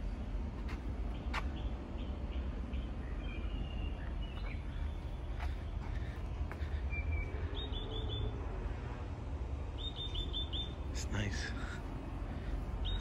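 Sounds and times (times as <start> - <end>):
low steady rumble: 0.0 - 13.0
small birds chirping: 0.6 - 13.0.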